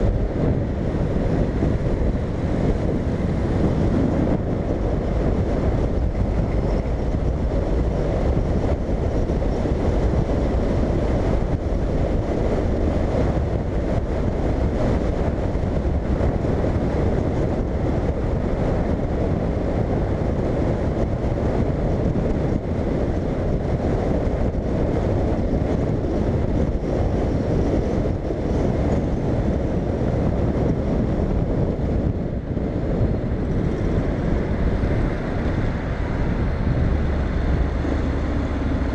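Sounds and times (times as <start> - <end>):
road noise: 0.0 - 38.9
wind rush on microphone: 0.0 - 38.9.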